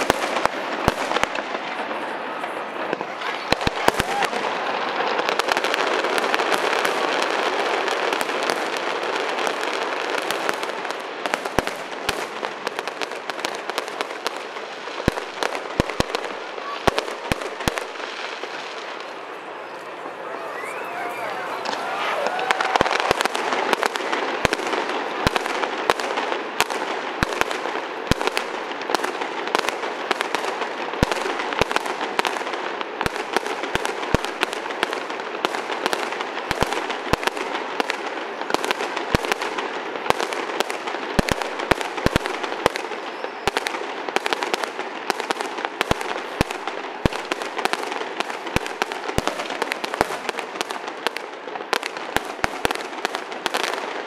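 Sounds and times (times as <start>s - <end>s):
deep firework bangs: 0.0s - 54.0s
fireworks cracking and popping: 0.0s - 54.0s.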